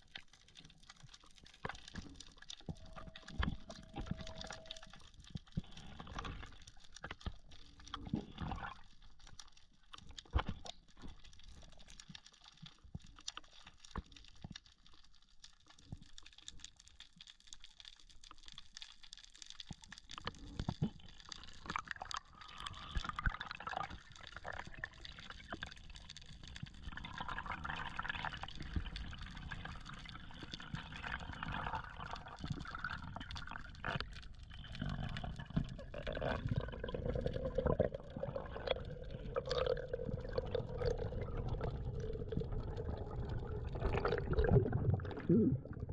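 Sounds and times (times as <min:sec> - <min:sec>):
water moving underwater: 0:00.0 - 0:45.9.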